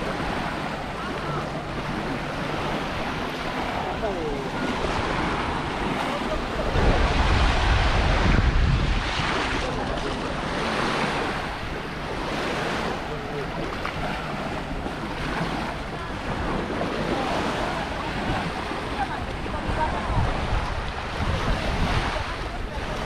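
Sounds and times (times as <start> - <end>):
faint voices of beachgoers: 0.0 - 23.0
small waves breaking on sand: 0.0 - 23.0
wind buffeting microphone: 0.0 - 23.0.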